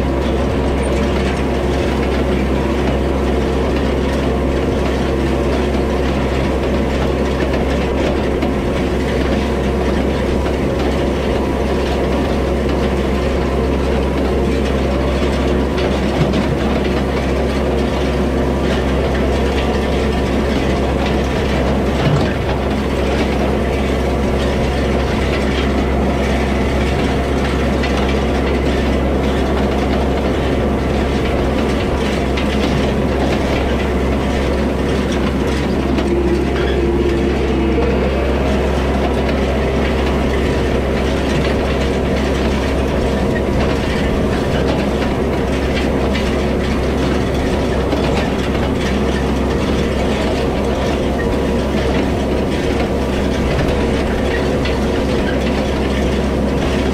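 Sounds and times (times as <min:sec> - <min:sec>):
hay rake clattering: 0:00.0 - 0:56.9
tractor engine running: 0:00.0 - 0:56.9.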